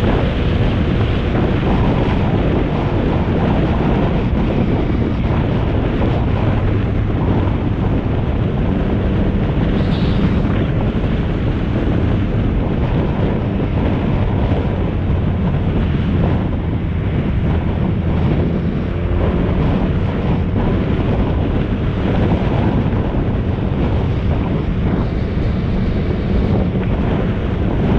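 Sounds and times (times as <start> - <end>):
low engine hum: 0.0 - 27.9
wind buffeting on microphone: 0.0 - 27.9.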